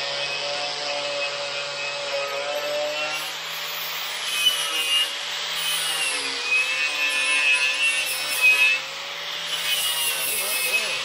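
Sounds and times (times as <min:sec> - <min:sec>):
angle grinder grinding metal: 0:00.0 - 0:11.0
grinder scraping: 0:00.0 - 0:11.0.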